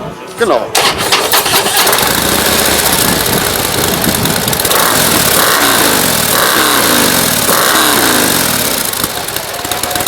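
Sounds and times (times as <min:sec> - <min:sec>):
motorcycle engine revving: 0:00.8 - 0:10.0.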